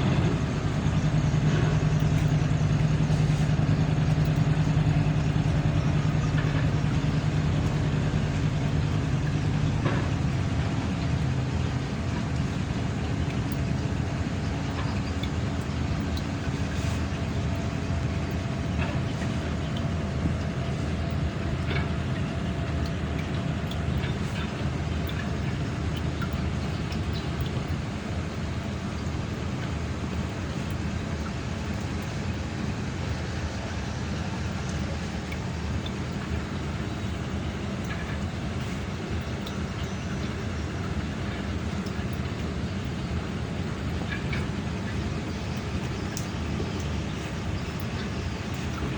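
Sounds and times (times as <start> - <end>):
engine rumbling: 0.0 - 48.9.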